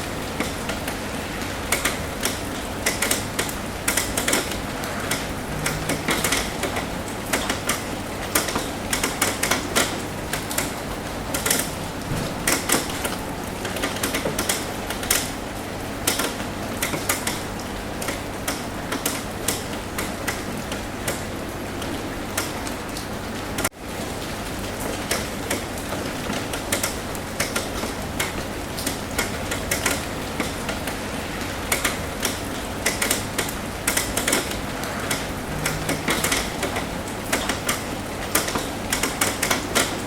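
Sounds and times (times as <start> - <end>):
rain drops tapping on roof: 0.0 - 40.0
rain hiss: 0.0 - 40.0.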